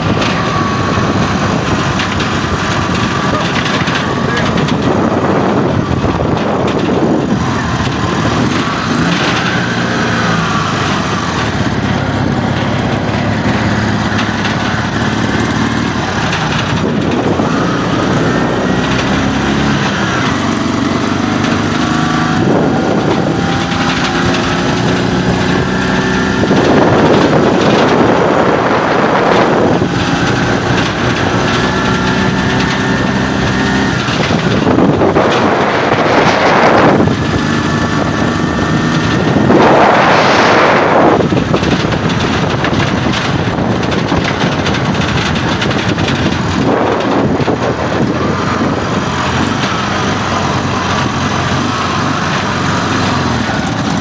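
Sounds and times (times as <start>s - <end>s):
motorcycle engine accelerating: 0.0s - 54.0s
wind on microphone: 0.0s - 54.0s.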